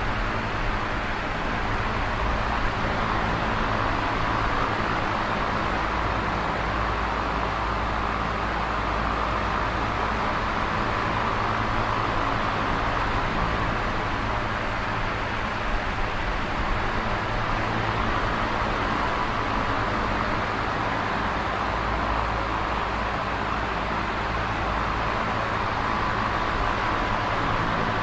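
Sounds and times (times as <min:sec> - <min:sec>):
electric fan running: 0:00.0 - 0:28.0.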